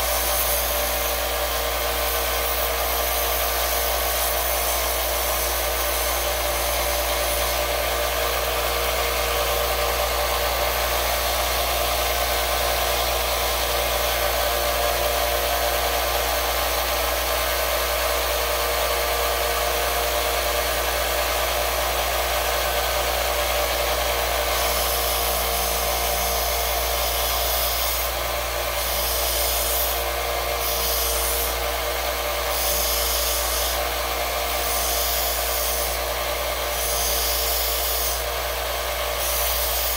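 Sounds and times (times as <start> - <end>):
belt sander grinding metal: 0.0 - 39.9.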